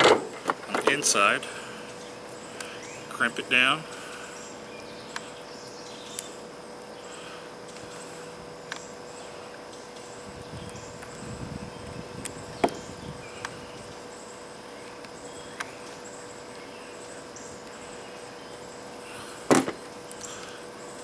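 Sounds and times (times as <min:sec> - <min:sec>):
insect chirring: 0:01.1 - 0:21.0.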